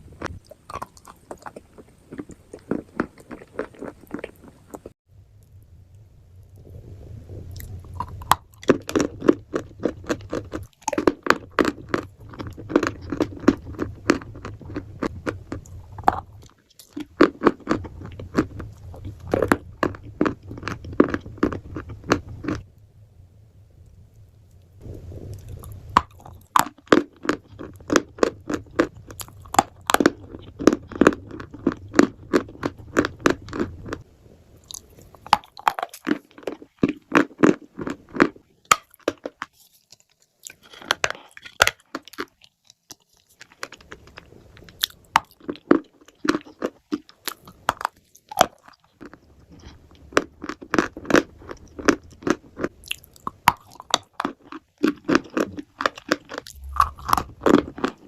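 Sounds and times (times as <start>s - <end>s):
crunching and chewing: 0.0s - 5.0s, 6.5s - 22.7s, 24.8s - 58.0s.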